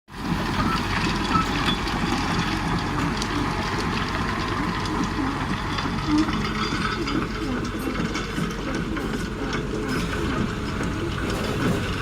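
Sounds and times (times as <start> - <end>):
excavator diesel engine rumbling: 0.1 - 12.0.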